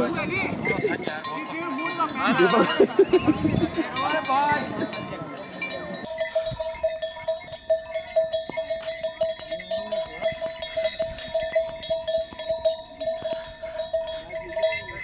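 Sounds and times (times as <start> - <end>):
harness bell jingling: 0.0 - 15.0.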